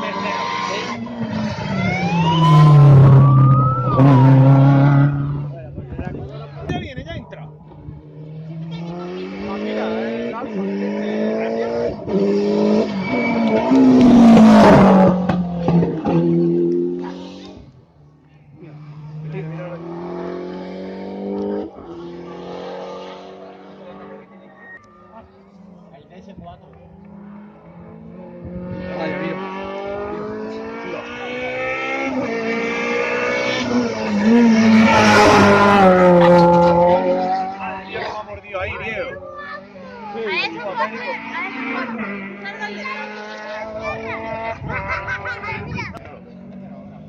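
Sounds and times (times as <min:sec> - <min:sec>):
rally car engine revving past: 0:00.0 - 0:05.6, 0:07.4 - 0:17.8, 0:18.5 - 0:25.8, 0:26.8 - 0:38.2, 0:40.7 - 0:44.8.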